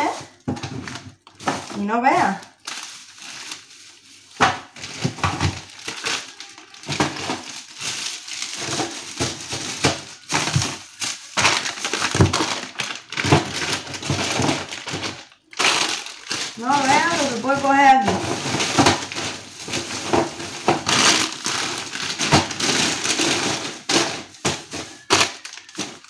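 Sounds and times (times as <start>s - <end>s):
frozen food bags knocking: 0.0s - 26.0s
plastic bags crinkling: 0.0s - 26.0s.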